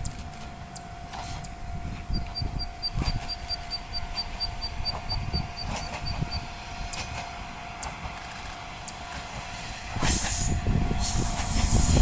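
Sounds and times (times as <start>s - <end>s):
wind buffeting microphone: 1.4s - 12.0s.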